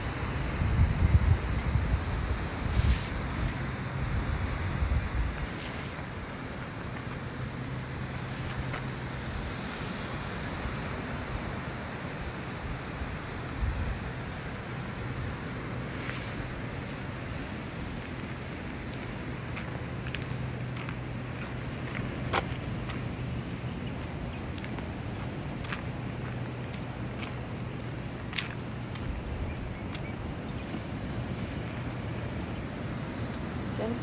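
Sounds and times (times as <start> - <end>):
wind buffeting microphone: 0.0 - 7.4, 8.0 - 34.0.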